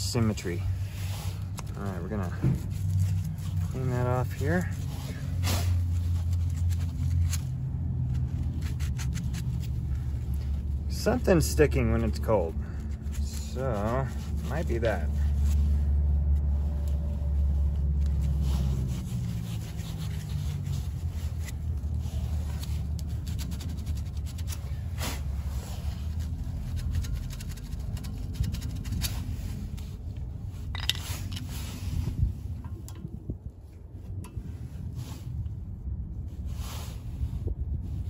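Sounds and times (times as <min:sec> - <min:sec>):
cloth rubbing and scraping: 0:00.0 - 0:32.6
low rumble: 0:00.0 - 0:38.0.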